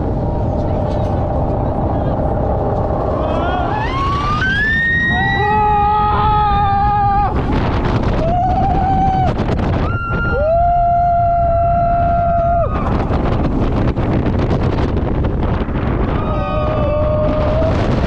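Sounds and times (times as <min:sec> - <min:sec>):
wind rushing: 0:00.0 - 0:18.0.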